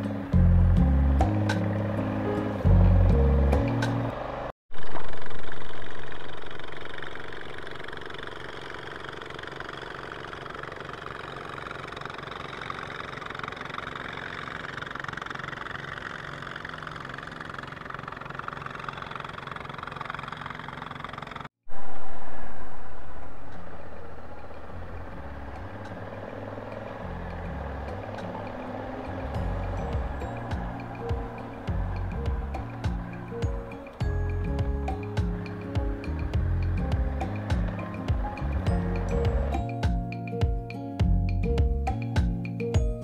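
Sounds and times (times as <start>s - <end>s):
motorcycle engine running: 0.0s - 21.6s, 23.1s - 43.0s.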